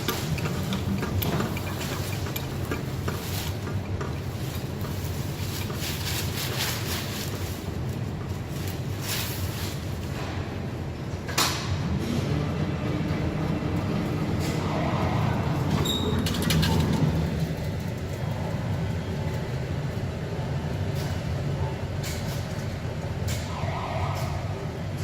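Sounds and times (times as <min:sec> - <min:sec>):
diesel truck engine running: 0:00.0 - 0:09.0, 0:09.8 - 0:22.0.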